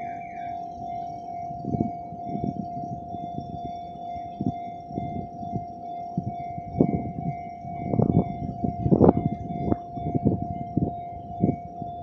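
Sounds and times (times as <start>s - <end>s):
level crossing alarm ringing: 0.0s - 12.0s
low rumbles: 1.5s - 12.0s.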